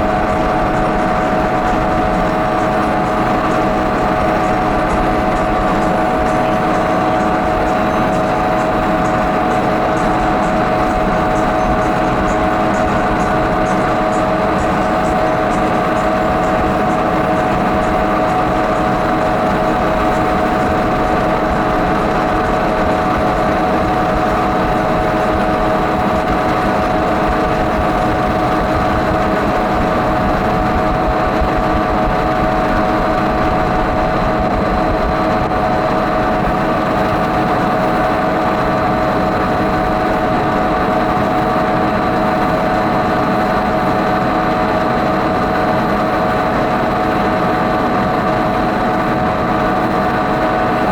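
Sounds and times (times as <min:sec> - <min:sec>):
machine hum with whining tones: 0:00.0 - 0:50.9.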